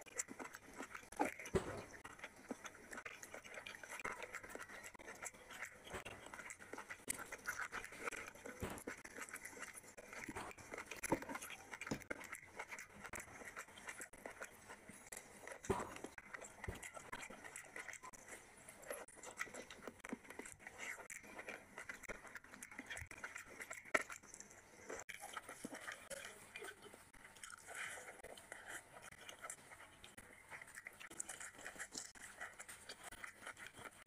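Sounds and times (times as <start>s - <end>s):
wet chewing and lip-smacking: 0.0s - 34.0s.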